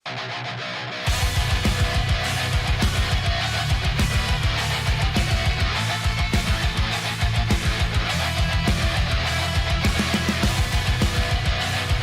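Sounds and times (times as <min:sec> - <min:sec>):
electric guitar: 0:00.0 - 0:12.0
heavy rock music: 0:00.0 - 0:12.0
fast kick drum beats: 0:01.1 - 0:12.0.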